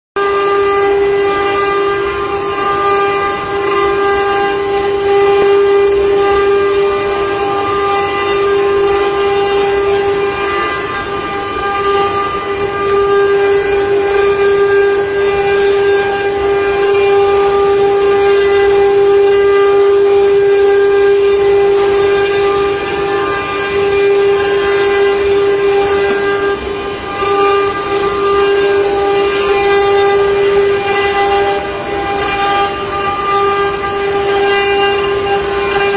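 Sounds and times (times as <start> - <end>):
wood router high-pitched whine: 0.2 - 35.9.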